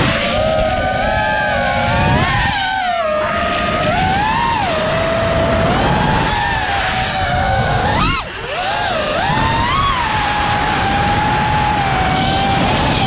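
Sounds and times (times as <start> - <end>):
drone motors whining: 0.0 - 13.0
wind rush: 0.0 - 13.0.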